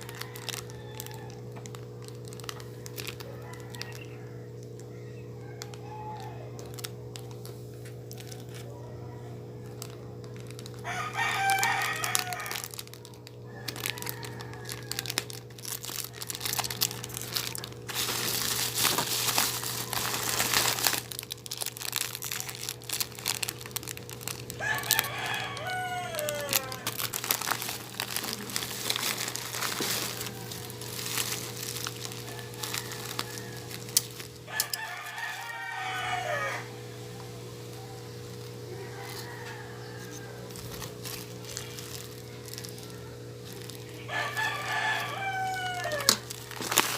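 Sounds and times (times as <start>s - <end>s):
rooster crowing: 0.0s - 7.4s, 8.0s - 22.6s, 23.2s - 46.9s
plastic packaging crinkling: 0.0s - 36.7s, 37.4s - 46.9s
steady low hum: 0.0s - 46.9s.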